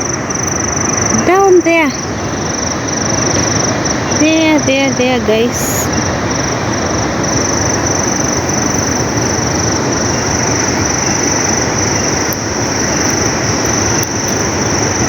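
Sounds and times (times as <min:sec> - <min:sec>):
loud rushing outdoor noise: 0:00.0 - 0:15.0.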